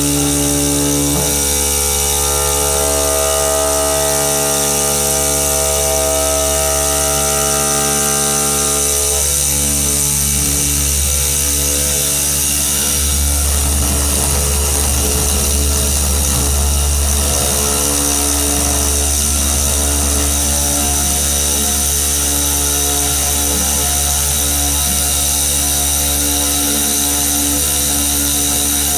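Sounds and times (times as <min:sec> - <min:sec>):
deep hum: 0:00.0 - 0:28.9
machining spindle whine: 0:00.0 - 0:28.9.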